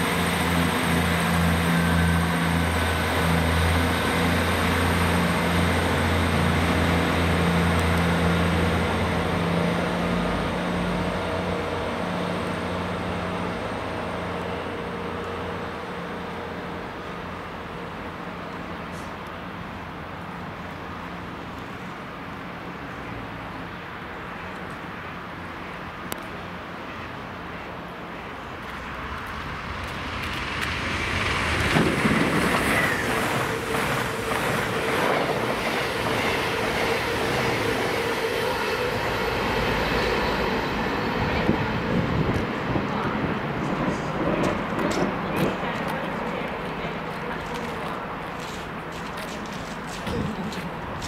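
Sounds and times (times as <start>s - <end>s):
train diesel engines droning: 0.0s - 51.0s.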